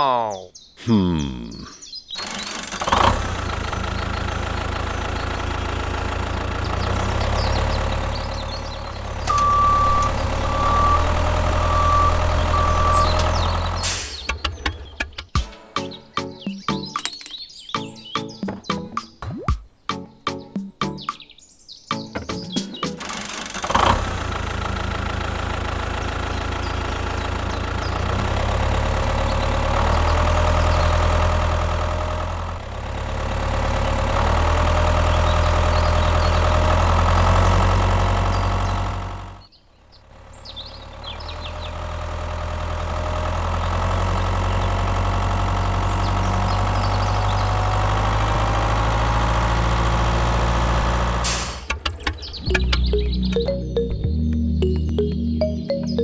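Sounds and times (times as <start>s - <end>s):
engine rumbling: 0.0s - 15.4s, 22.8s - 56.0s.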